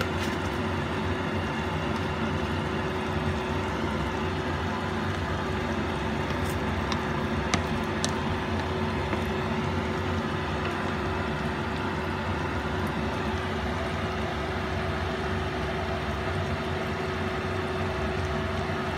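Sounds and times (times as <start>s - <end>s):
motor hum: 0.0s - 18.9s.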